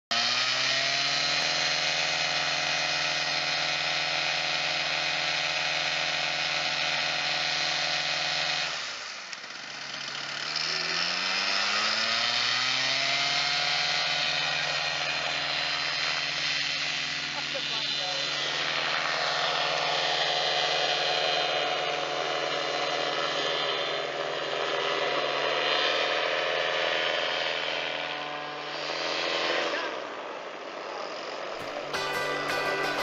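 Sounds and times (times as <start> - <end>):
engine and propeller running: 0.1 - 32.0.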